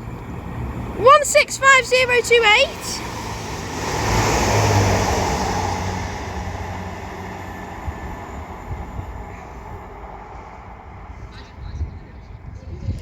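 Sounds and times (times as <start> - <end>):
diesel engine hum: 0.0 - 12.4
train wheel rumble: 0.0 - 13.0.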